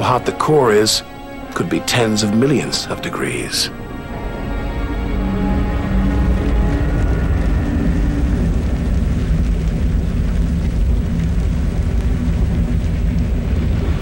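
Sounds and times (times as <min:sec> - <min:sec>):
deep rumbling noise: 0:00.0 - 0:14.0.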